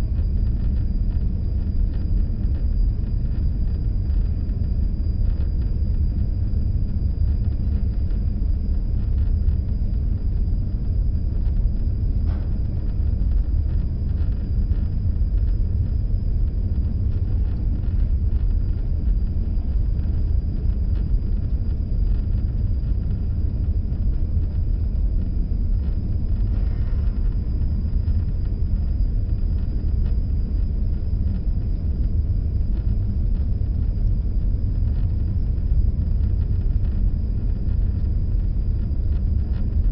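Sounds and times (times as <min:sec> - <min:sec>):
faint high whine: 0:00.0 - 0:39.9.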